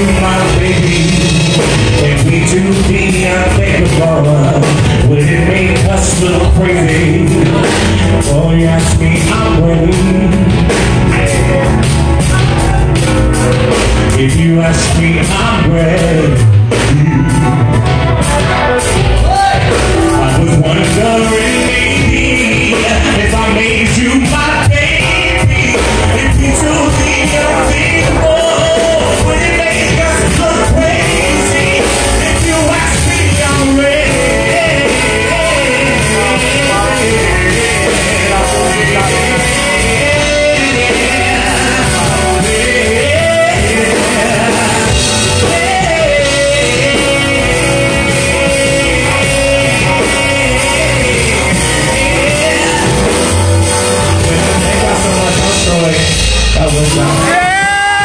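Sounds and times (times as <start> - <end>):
keyboard accompaniment: 0.0 - 58.0
man singing into a microphone: 0.0 - 58.0.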